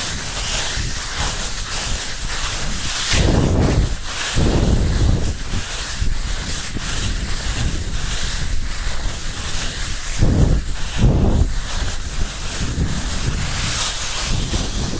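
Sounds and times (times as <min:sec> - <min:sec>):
skis sliding on snow: 0:00.0 - 0:14.9
wind buffeting microphone: 0:00.0 - 0:14.9.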